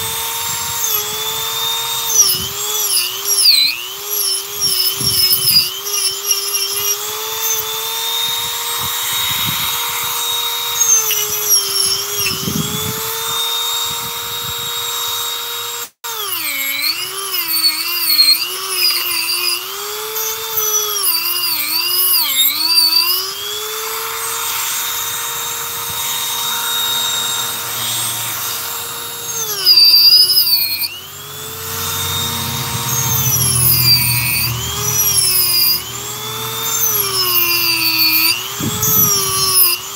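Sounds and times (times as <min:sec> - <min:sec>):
rotary tool whining carving wood: 0:00.0 - 0:39.9.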